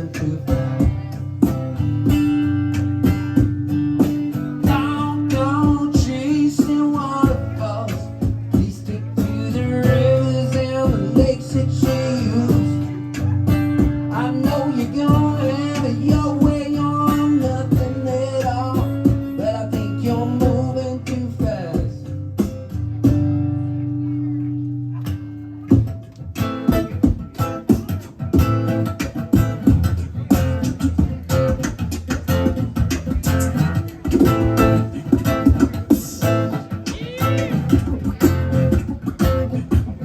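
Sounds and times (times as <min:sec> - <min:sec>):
acoustic guitar picking and strumming: 0:00.0 - 0:40.0.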